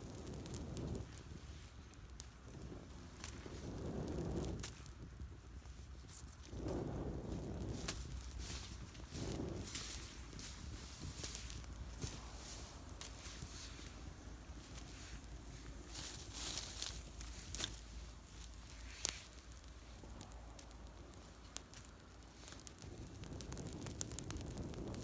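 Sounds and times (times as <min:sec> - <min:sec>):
campfire crackling: 0:00.0 - 0:25.0
sharp fire pops: 0:00.0 - 0:25.0
twigs rustling: 0:04.4 - 0:24.6.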